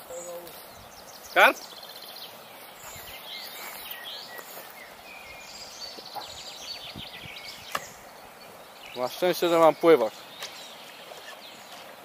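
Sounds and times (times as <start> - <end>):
outdoor background noise: 0.0 - 12.0
small birds singing and chirping: 0.0 - 12.0.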